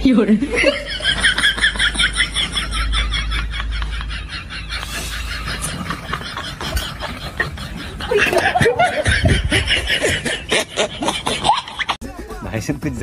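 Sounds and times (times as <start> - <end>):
people laughing and giggling: 0.4 - 12.4.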